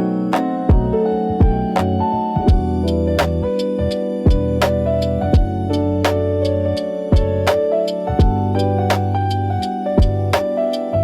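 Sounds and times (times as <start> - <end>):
lo-fi hip-hop music: 0.0 - 11.0.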